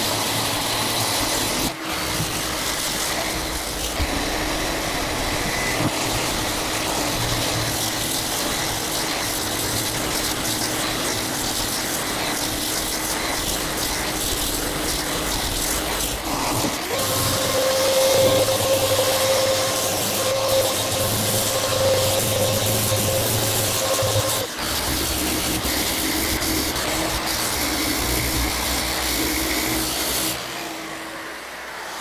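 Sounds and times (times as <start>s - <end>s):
dust extractor humming: 0.0s - 32.0s
orbital sander sanding: 0.0s - 32.0s.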